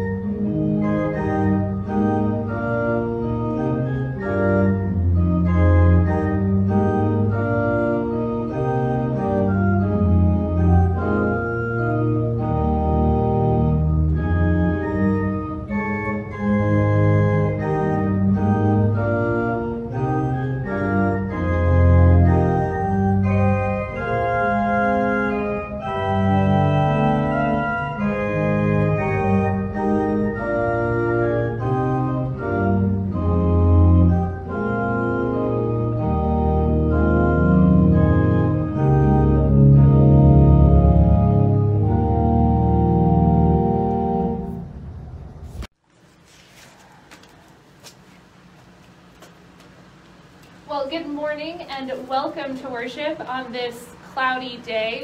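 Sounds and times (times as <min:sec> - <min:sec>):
church organ chords: 0:00.0 - 0:45.2.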